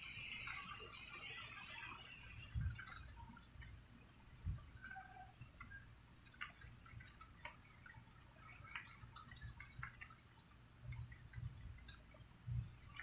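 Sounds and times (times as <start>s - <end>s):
raindrops ticking: 0.0s - 13.0s.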